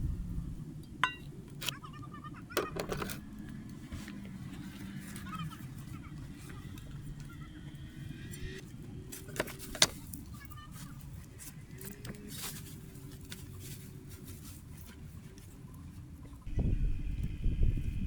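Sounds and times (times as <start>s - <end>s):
low rumble of background noise: 0.0s - 18.0s.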